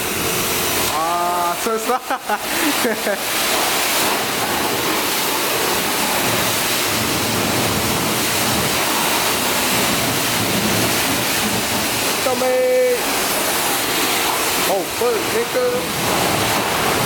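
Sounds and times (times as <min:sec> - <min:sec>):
pressure washer spraying car: 0:00.0 - 0:17.0.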